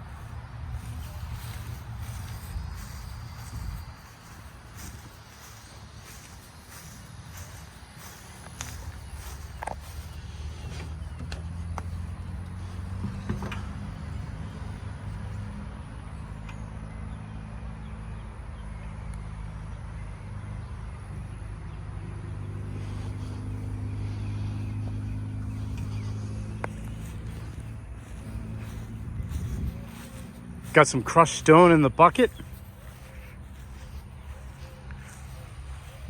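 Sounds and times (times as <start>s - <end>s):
diesel engine idling: 0.0s - 16.5s, 21.0s - 36.0s.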